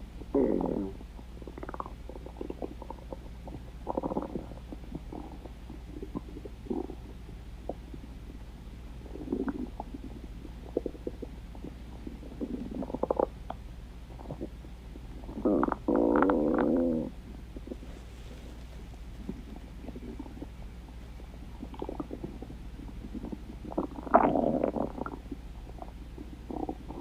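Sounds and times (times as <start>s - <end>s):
stomach growling: 0.2s - 27.0s.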